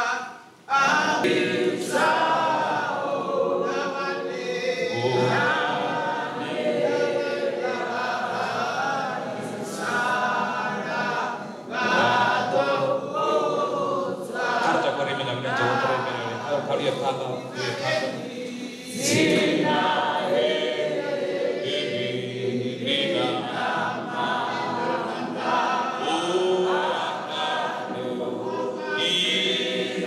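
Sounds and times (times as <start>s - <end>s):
choir singing a hymn: 0.0s - 30.0s.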